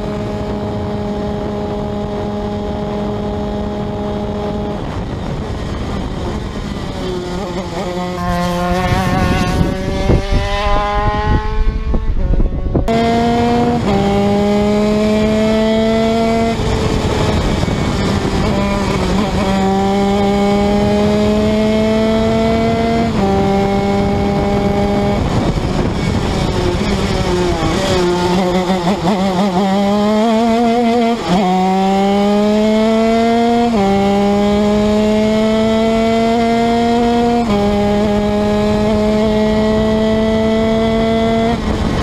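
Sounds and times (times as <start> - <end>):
kart engine revving: 0.0 - 42.0.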